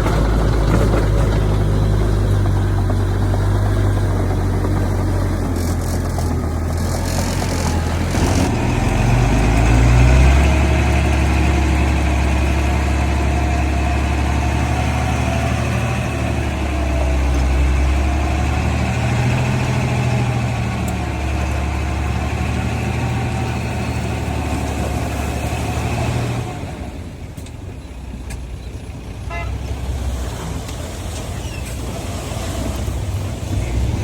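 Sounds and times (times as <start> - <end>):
engine whine: 0.0 - 34.0
heavy diesel engine running: 0.0 - 34.0.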